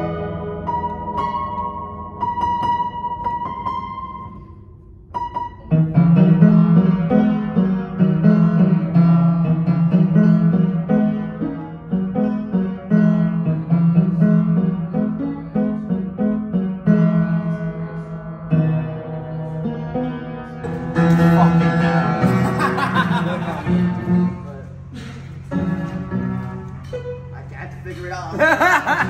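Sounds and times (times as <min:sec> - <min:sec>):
upright piano chords and notes: 0:00.0 - 0:29.0.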